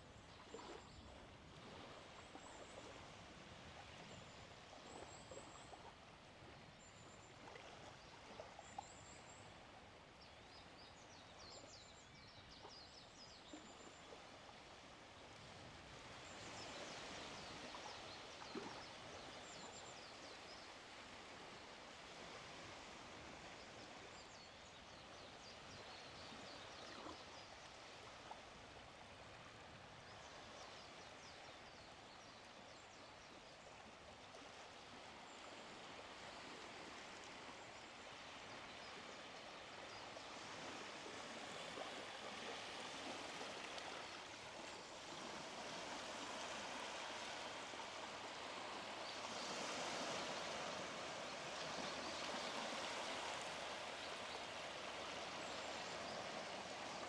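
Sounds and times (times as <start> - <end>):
small waves washing on beach: 0.0 - 10.2, 13.4 - 57.0.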